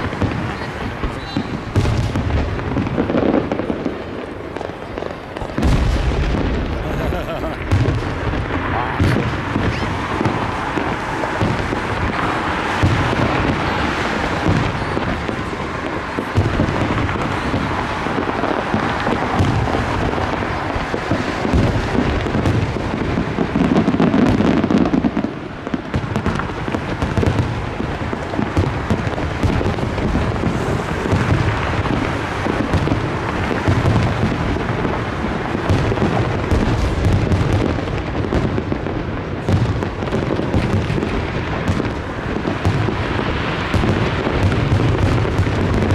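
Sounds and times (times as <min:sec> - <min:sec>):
fireworks booming: 0:00.0 - 0:45.9.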